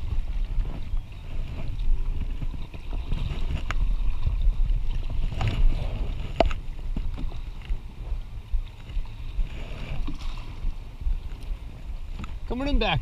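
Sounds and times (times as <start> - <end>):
paddle stroking through water: 0.0 - 13.0
wind rumble on microphone: 0.0 - 13.0.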